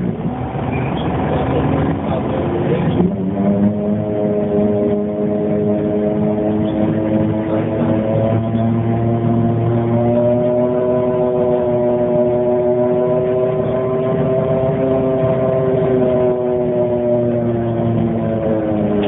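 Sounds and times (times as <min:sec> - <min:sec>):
bus droning whine: 0:00.0 - 0:19.0.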